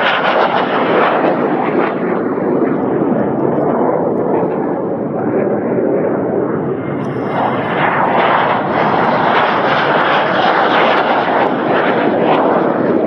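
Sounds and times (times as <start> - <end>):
jet engines screaming: 0.0 - 13.0.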